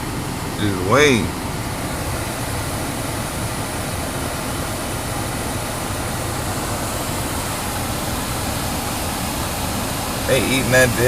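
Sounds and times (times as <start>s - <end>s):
air-conditioning fan running: 0.0s - 11.0s
car engine idling: 0.0s - 11.0s.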